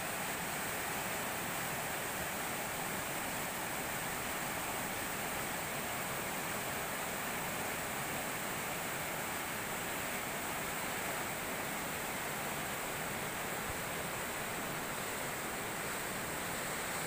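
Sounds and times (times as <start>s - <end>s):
water rushing over a weir: 0.0s - 17.0s.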